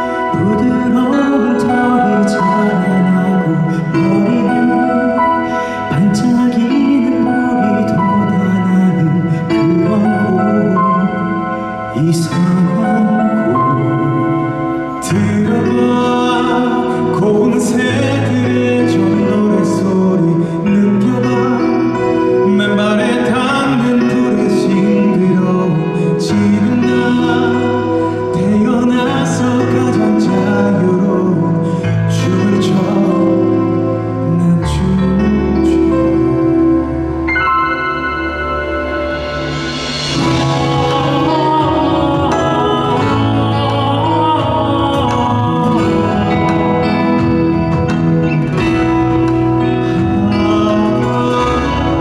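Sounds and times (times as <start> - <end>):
instrumental accompaniment: 0.0 - 52.0
live song with sung vocals: 0.0 - 52.0
man singing with vibrato: 0.0 - 52.0.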